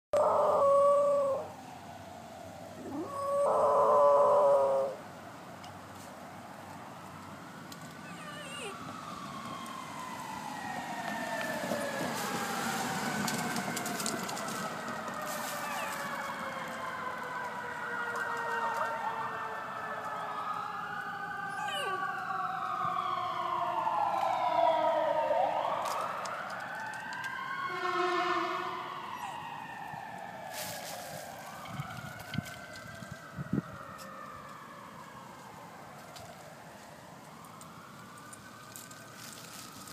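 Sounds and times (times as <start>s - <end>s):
fire truck sirens wailing: 0.1s - 5.1s, 6.3s - 39.9s.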